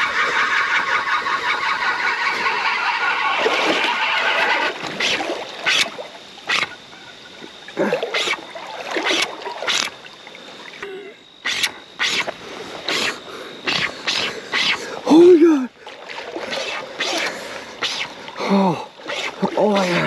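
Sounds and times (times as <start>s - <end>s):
fishing reel whirring: 0.0s - 20.0s.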